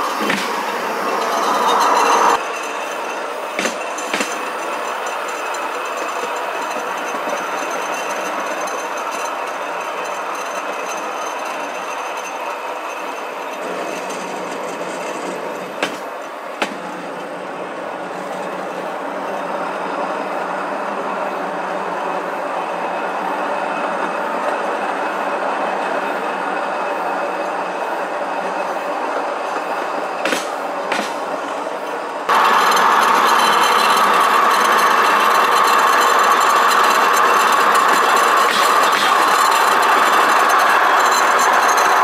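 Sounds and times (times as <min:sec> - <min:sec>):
wheels clicking over rail joints: 0:00.0 - 0:22.8, 0:23.9 - 0:42.0
rail bike rolling on rails: 0:00.0 - 0:42.0.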